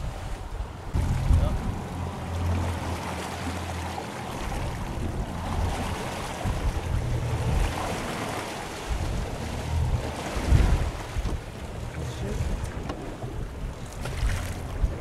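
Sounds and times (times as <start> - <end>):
low engine rumble: 0.0 - 15.0
water rushing along boat hull: 0.0 - 15.0
wind buffeting microphone: 0.0 - 15.0.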